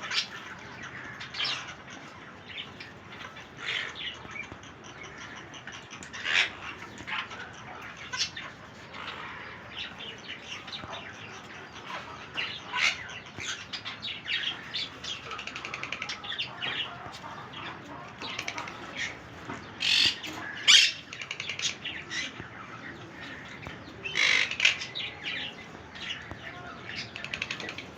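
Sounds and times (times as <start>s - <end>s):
parrots chirping and squawking: 0.0s - 27.9s.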